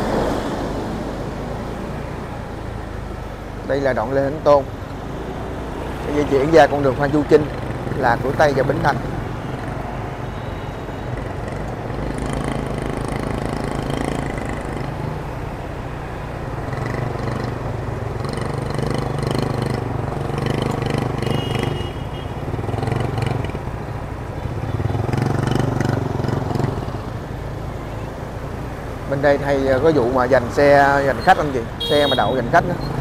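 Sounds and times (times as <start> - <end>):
motorbike engines running: 0.0 - 33.0.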